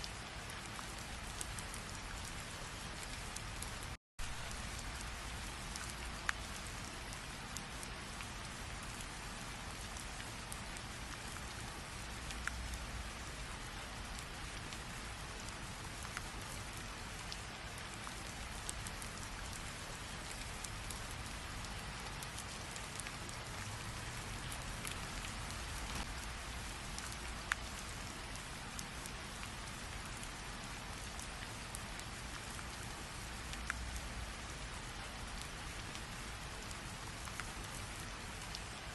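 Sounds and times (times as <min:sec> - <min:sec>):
rain drop ticks: 0:00.0 - 0:38.9
steady rain hiss: 0:00.0 - 0:38.9.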